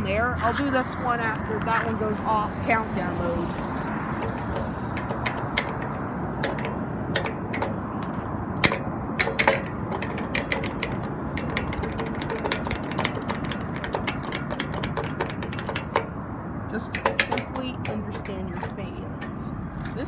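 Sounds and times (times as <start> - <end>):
street traffic hum: 0.0 - 20.0.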